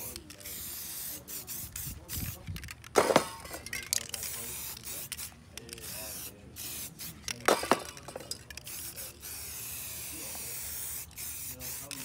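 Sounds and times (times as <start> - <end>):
spray-paint can hissing: 0.0 - 2.8, 4.1 - 12.0.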